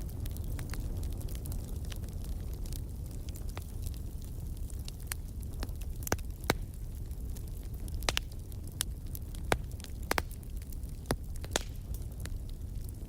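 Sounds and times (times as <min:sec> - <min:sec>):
low rumble of burning fire: 0:00.0 - 0:13.0
wood fire crackling: 0:00.0 - 0:13.0.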